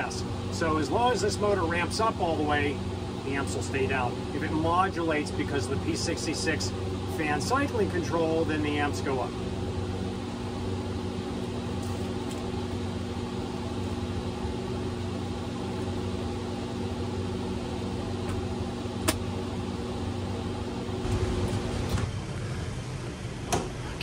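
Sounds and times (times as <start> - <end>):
machine hum with steady tones: 0.0 - 24.0.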